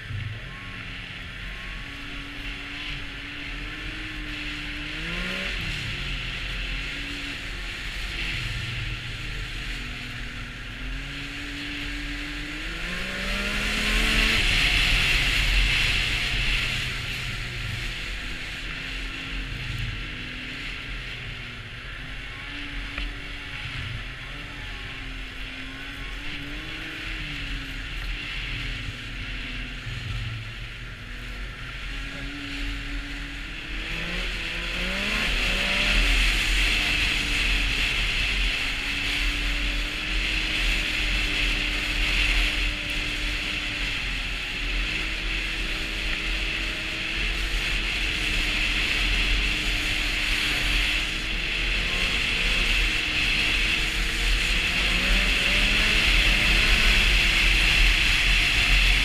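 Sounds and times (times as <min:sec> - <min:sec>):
snowmobile engine running: 0:00.0 - 0:59.0
track and wind hiss: 0:00.0 - 0:59.0.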